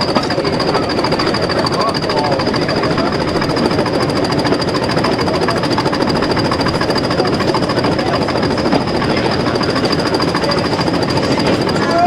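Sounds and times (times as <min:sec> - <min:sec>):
diesel locomotive engine under load: 0:00.0 - 0:12.0.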